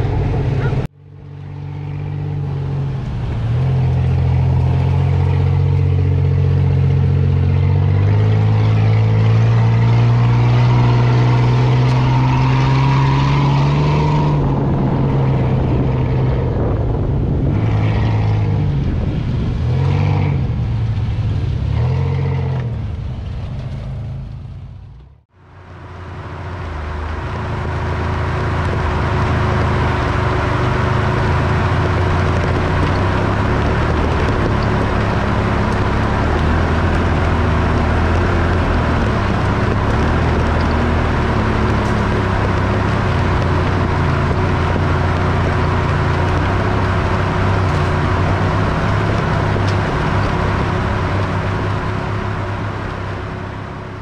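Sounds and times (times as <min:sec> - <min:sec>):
wind noise: 0:00.0 - 0:24.0, 0:26.7 - 0:54.0
off-road vehicle engine revving: 0:00.0 - 0:54.0
tyres on dirt track: 0:00.0 - 0:54.0.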